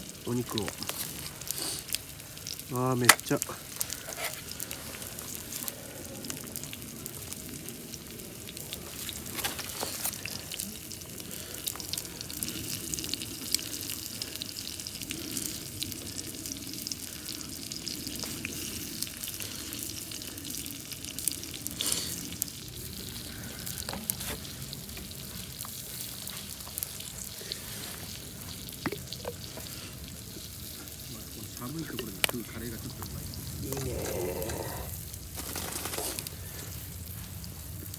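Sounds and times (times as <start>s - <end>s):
crackles and pops of frying: 0.0s - 37.9s
food sizzling in hot oil: 0.0s - 37.9s.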